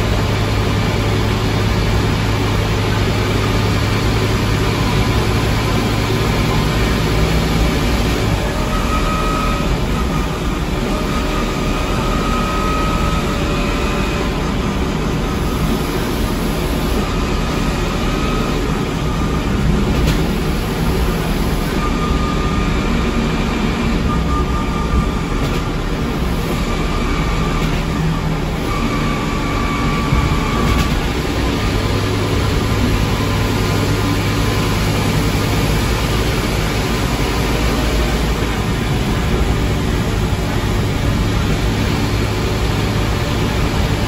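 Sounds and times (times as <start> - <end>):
bus engine running: 0.0 - 44.0
faint gear whine: 0.0 - 44.0.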